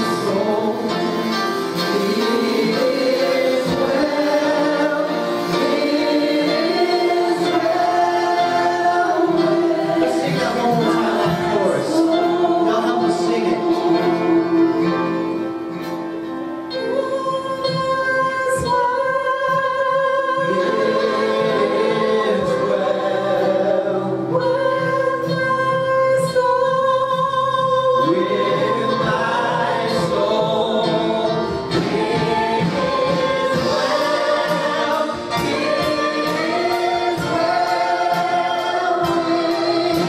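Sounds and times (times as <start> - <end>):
group singing a hymn: 0.0 - 16.0, 16.7 - 40.0
instrumental accompaniment: 0.0 - 40.0.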